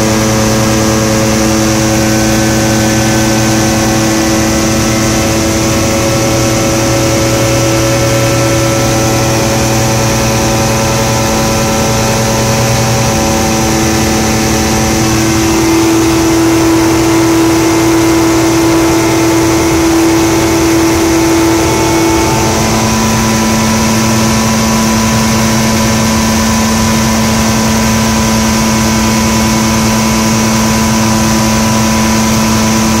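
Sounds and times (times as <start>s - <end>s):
light aircraft engine droning: 0.0s - 33.0s.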